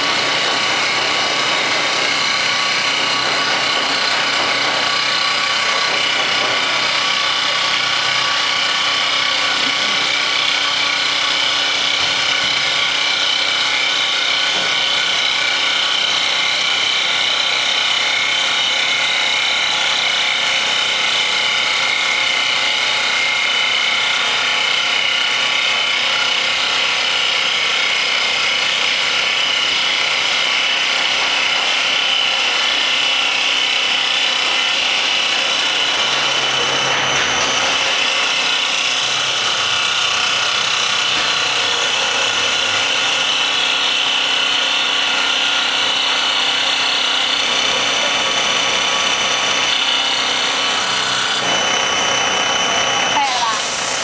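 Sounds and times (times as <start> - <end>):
wood lathe cutting: 0.0 - 54.0.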